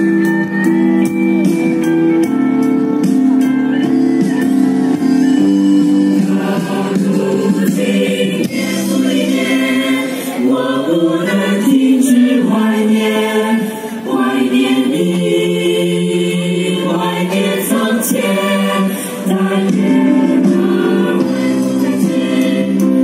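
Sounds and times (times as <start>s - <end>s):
choir singing in harmony: 3.7s - 23.0s.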